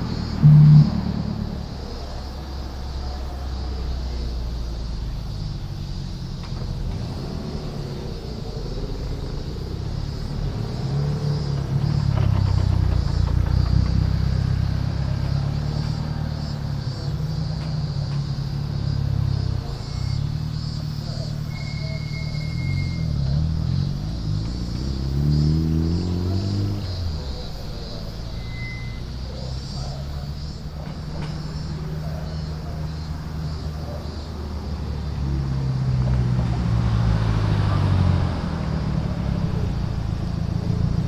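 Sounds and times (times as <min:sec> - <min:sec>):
car engines rumbling: 0:00.0 - 0:41.0.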